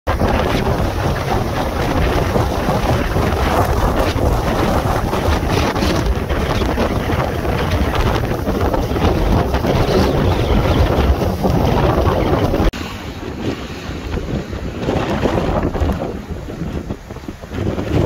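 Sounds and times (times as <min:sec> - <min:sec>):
storm wind buffeting microphone: 0:00.1 - 0:18.0.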